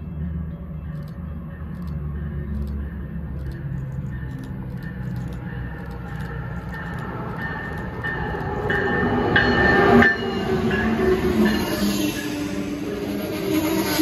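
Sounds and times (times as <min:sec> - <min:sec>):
train passing rumble: 0:00.0 - 0:14.0.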